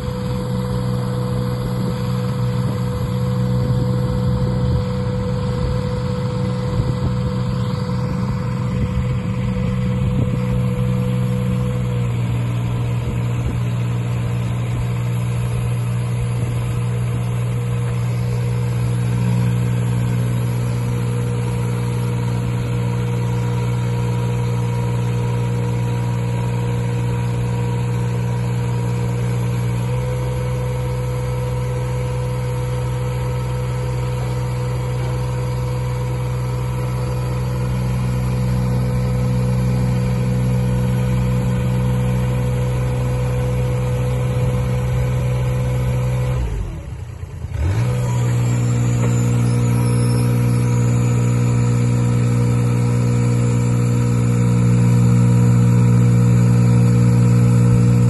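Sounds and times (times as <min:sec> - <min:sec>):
lift engine and hydraulic pump whine: 0:00.0 - 0:58.0.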